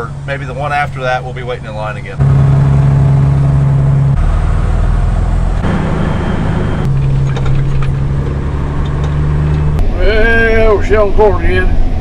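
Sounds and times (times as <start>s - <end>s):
truck engine drone from cab: 0.0s - 12.0s.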